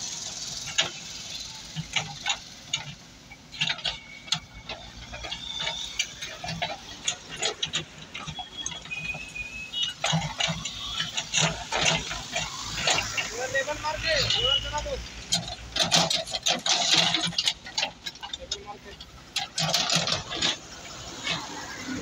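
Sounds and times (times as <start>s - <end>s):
diesel engine running low: 0.0s - 22.0s.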